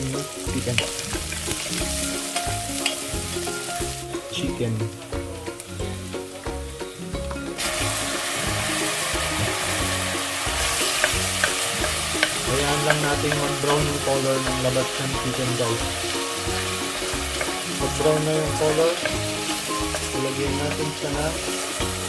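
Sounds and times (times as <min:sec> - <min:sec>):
garlic and onion sizzling in oil: 0:00.0 - 0:22.0.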